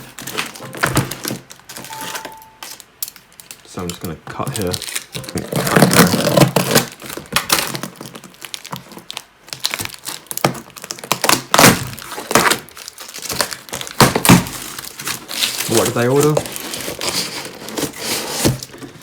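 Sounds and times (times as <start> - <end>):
cardboard crinkling and knocking: 0.0 - 2.8, 4.5 - 19.0.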